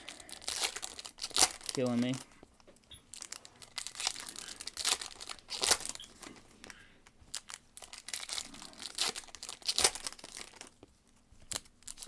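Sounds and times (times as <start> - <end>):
card pack wrappers crinkling: 0.0 - 12.0.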